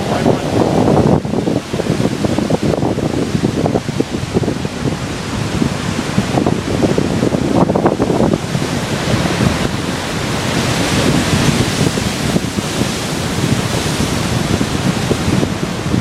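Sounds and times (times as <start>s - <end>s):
ocean surf washing: 0.0s - 16.0s
wind buffeting microphone: 0.0s - 16.0s.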